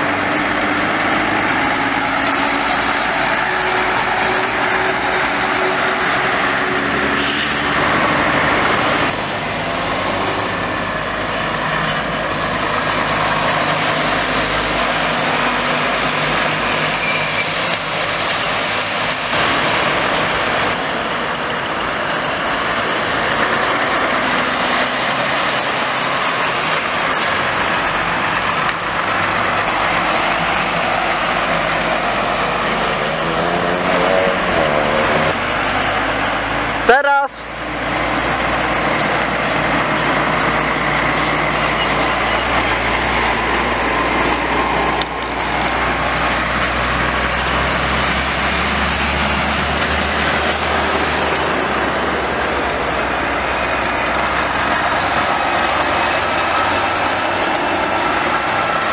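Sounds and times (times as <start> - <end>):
trucks passing by: 0.0 - 58.9.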